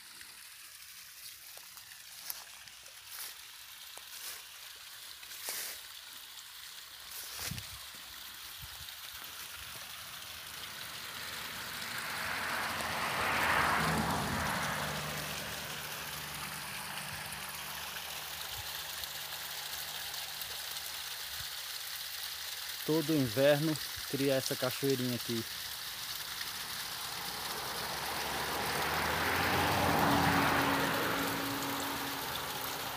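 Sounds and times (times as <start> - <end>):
small waterfall trickling and splashing: 0.0 - 32.9.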